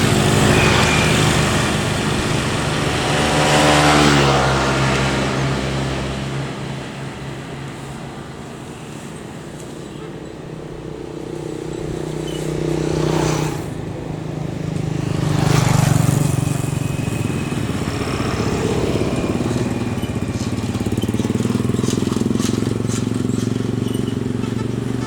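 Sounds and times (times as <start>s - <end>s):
vehicle engines running: 0.0s - 25.0s
vehicles passing close by: 0.0s - 25.0s.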